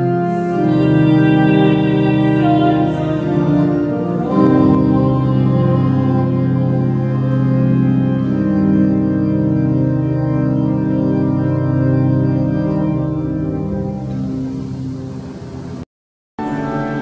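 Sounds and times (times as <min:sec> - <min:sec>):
organ playing held chords: 0:00.0 - 0:15.8, 0:16.4 - 0:17.0.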